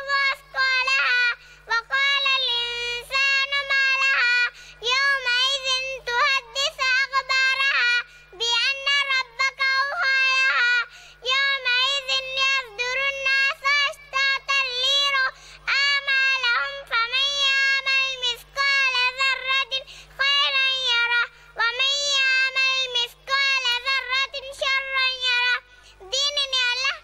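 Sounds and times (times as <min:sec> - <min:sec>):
girl chanting sing-song: 0:00.0 - 0:27.0.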